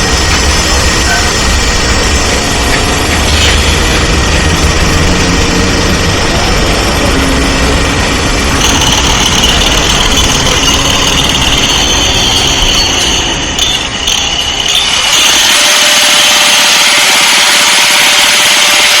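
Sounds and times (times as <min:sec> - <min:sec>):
heavy machinery engine running: 0:00.0 - 0:19.0
high-pitched whine: 0:00.0 - 0:19.0.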